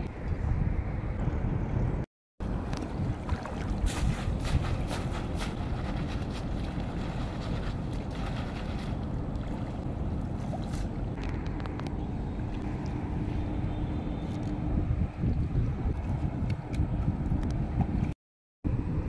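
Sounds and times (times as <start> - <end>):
wind buffeting microphone: 0.0 - 19.0
water sloshing and splashing: 2.4 - 18.2.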